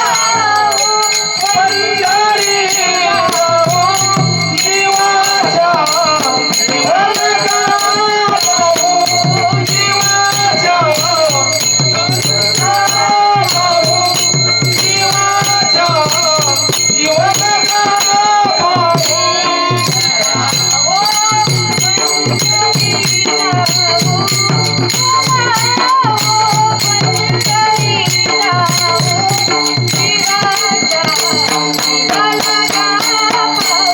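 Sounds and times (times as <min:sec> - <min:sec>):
girl singing devotional song: 0:00.0 - 0:33.9
jingling percussion: 0:00.0 - 0:33.9.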